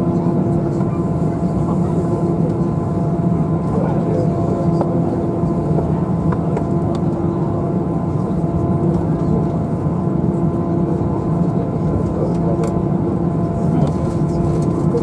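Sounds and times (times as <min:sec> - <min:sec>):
aircraft cabin drone: 0:00.0 - 0:15.0.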